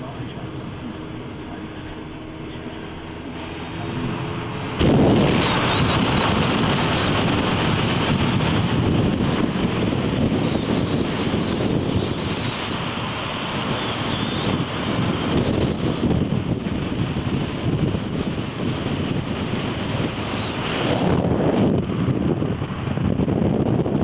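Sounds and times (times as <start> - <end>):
car road noise: 0.0 - 24.0
wind rushing over microphone: 0.0 - 24.0.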